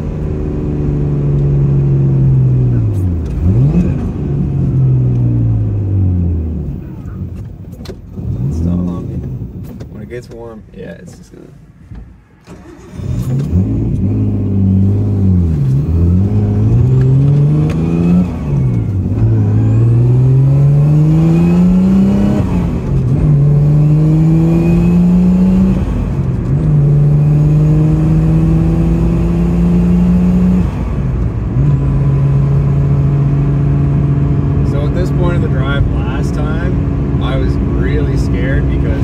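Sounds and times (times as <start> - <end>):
car engine accelerating through gears: 0.0 - 9.8, 12.4 - 39.0.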